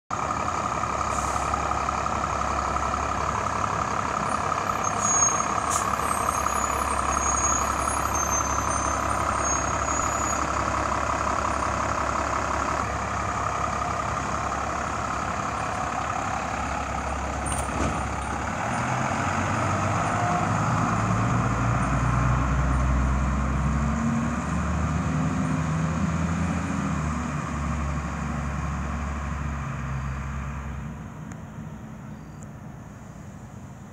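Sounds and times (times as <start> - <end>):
diesel truck engine driving off: 0.1 - 32.8.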